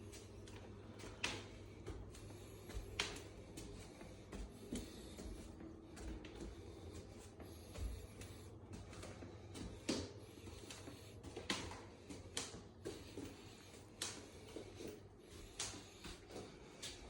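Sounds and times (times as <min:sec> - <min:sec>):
light sharp taps: 0:00.5 - 0:06.5, 0:07.7 - 0:17.0.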